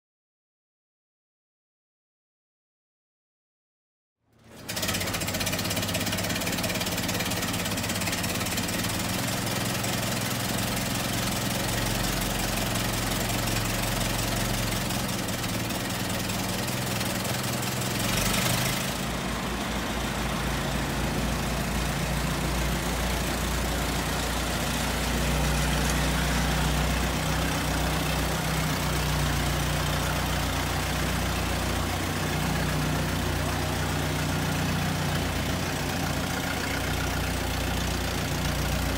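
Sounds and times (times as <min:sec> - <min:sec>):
car engine idling: 0:04.5 - 0:38.9.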